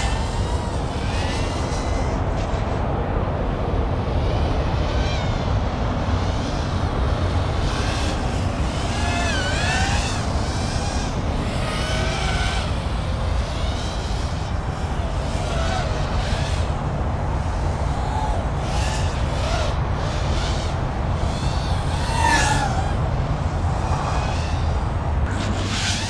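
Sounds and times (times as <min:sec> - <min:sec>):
drone motors whining: 0:00.0 - 0:26.0
wind noise: 0:00.0 - 0:26.0.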